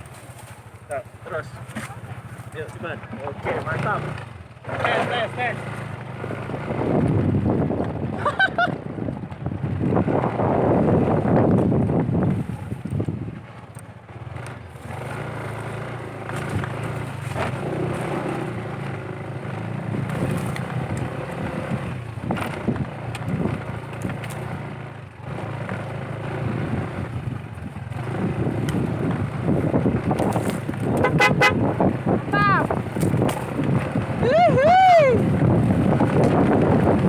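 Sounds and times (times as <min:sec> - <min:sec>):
motorcycle knocks and rattles: 0:00.0 - 0:34.3, 0:35.2 - 0:37.0
motorcycle engine at low revs: 0:00.0 - 0:37.0.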